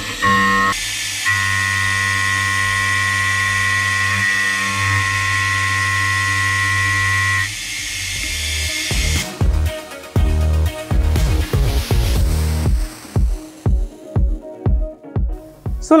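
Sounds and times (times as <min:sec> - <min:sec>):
low machine hum: 0:00.0 - 0:14.0
cutting hiss: 0:00.0 - 0:14.4
milling machine whine: 0:00.0 - 0:14.6.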